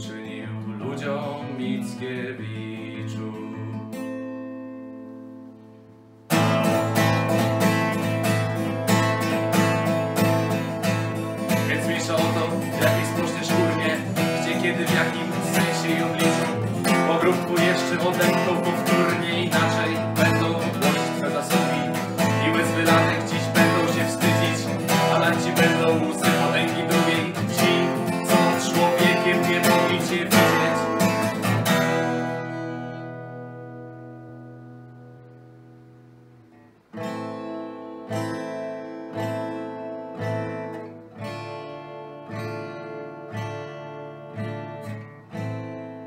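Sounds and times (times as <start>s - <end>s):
acoustic guitar strumming: 0.0s - 46.0s.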